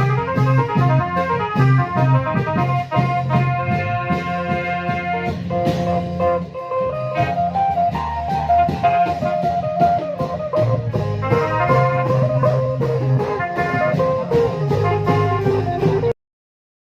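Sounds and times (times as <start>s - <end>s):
drum and cymbal beat: 0.0s - 16.1s
sustained melodic line: 0.0s - 16.1s.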